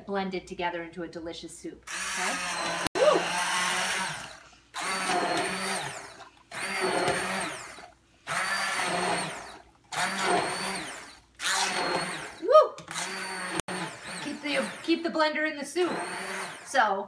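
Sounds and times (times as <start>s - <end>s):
blade churning soft vegetables: 1.9s - 15.0s, 15.8s - 16.9s
immersion blender motor whine: 1.9s - 15.0s, 15.8s - 17.0s.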